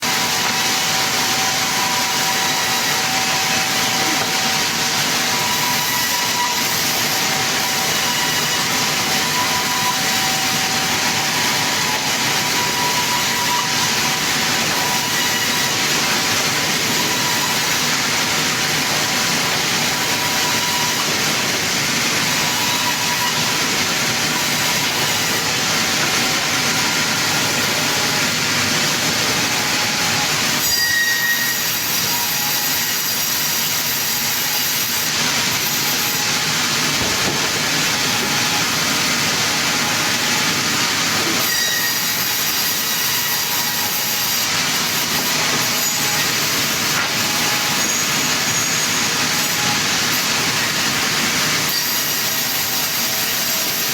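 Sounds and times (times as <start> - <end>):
circular saw cutting wood: 0.0 - 53.9.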